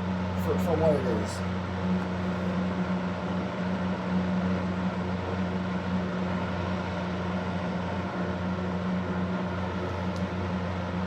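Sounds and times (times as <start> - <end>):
fan motor hum: 0.0 - 11.0.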